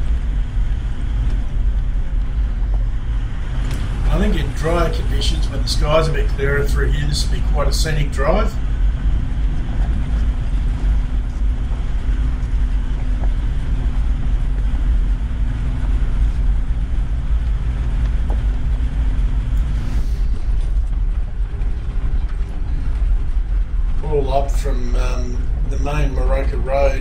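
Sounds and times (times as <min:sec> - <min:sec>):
engine and tyre rumble in cabin: 0:00.0 - 0:27.0.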